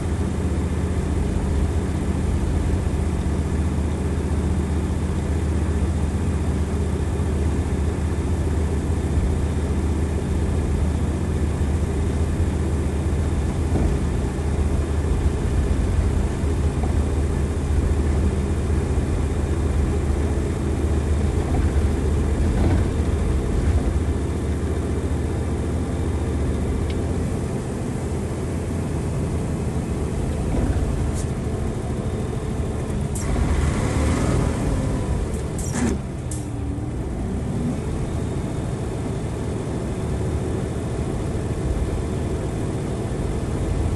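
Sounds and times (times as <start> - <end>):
bus engine droning: 0.0 - 43.9.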